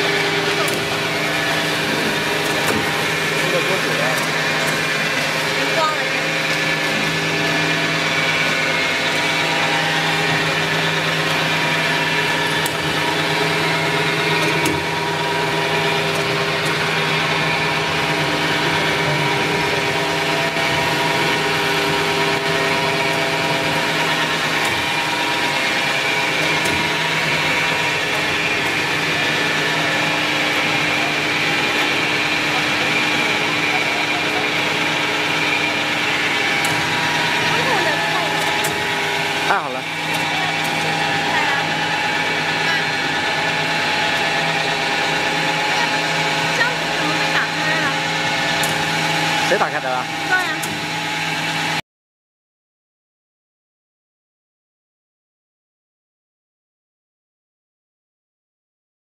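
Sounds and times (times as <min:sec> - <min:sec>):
machine hum with pitched tones: 0:00.0 - 0:51.8.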